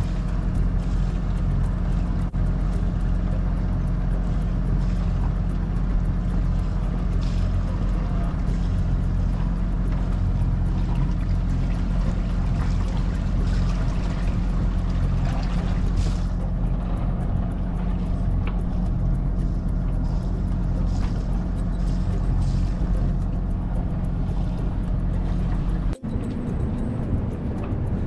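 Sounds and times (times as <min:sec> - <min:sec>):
water splashing along hull: 0:00.0 - 0:26.0
boat engine humming: 0:00.0 - 0:28.0.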